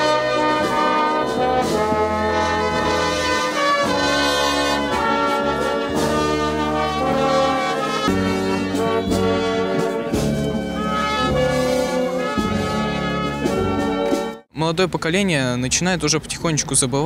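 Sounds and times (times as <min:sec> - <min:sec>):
brass band playing chords: 0:00.0 - 0:14.5.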